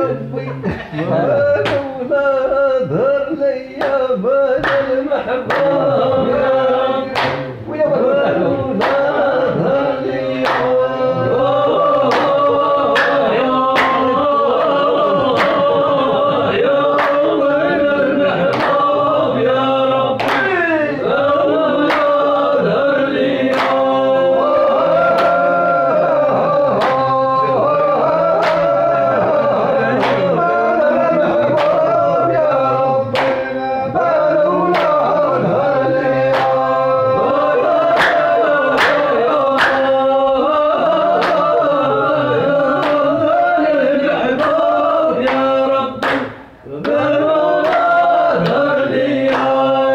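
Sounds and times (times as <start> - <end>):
men singing together: 0.0 - 49.9
steady handclaps: 1.6 - 1.9, 3.8 - 7.6, 8.7 - 30.5, 31.4 - 32.0, 33.0 - 33.7, 34.6 - 49.9.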